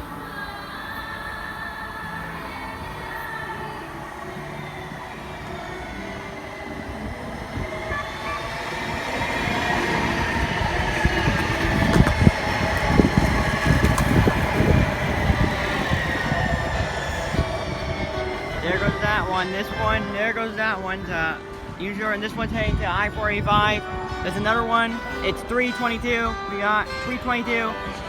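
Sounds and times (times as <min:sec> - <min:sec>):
light rail train passing: 0:00.0 - 0:28.0.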